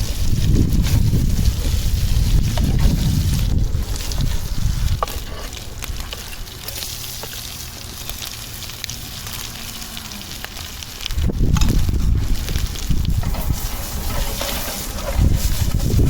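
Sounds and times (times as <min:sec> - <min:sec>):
fire crackles: 0:00.0 - 0:16.0
food sizzling in a pan: 0:00.0 - 0:16.0
low wind rumble: 0:00.0 - 0:16.0.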